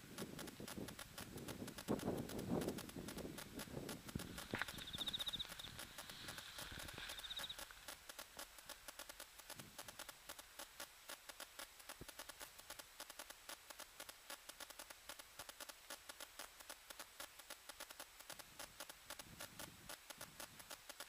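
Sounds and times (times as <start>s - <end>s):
faint crackling clicks: 0.0s - 21.0s
steady hiss: 0.0s - 21.0s.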